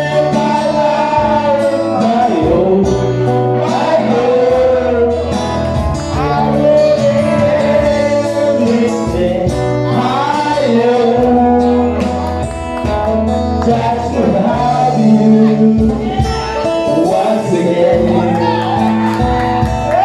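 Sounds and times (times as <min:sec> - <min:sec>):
band playing slow ballad: 0:00.0 - 0:20.0
person singing: 0:00.0 - 0:20.0.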